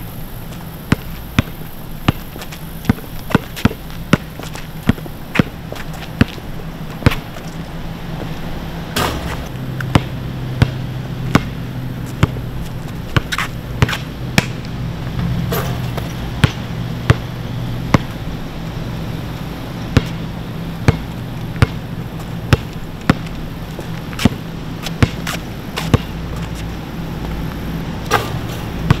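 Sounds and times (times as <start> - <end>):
low steady hum: 0.0 - 29.0
basketball bouncing on asphalt: 0.4 - 29.0.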